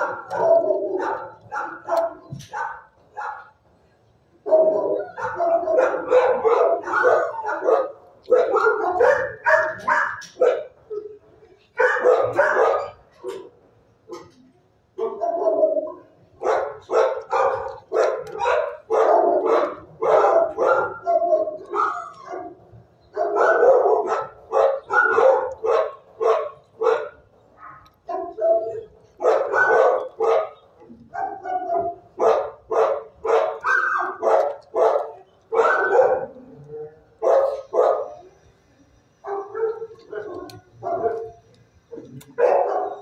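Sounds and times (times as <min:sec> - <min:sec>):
dog barking: 0:00.0 - 0:03.6, 0:04.4 - 0:11.2, 0:11.8 - 0:13.5, 0:15.0 - 0:36.4, 0:37.2 - 0:38.3, 0:39.2 - 0:43.0.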